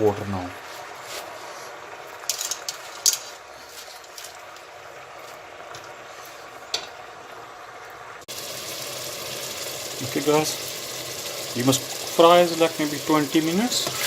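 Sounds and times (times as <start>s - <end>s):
spinach sizzling in oil: 0.0s - 14.0s.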